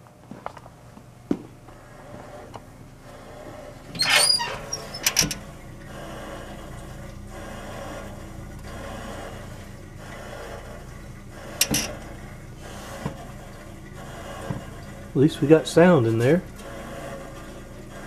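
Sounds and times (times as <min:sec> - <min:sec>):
refrigerator compressor humming: 0:00.0 - 0:18.0.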